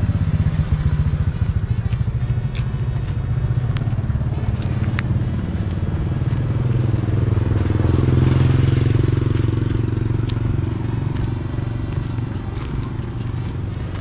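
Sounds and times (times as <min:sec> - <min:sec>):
motorcycle passing by: 0:00.0 - 0:14.0.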